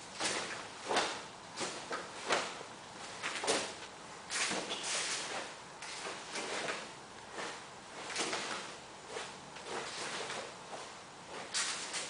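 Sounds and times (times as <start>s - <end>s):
uniform fabric swishing: 0.2s - 12.0s.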